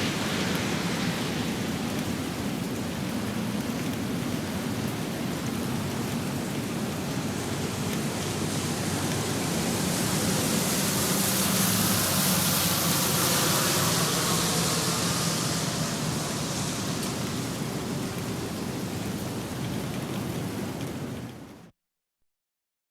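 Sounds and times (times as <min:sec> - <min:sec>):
vehicle tyre hiss on wet road: 0:00.0 - 0:20.1
rain on pavement: 0:00.0 - 0:21.7.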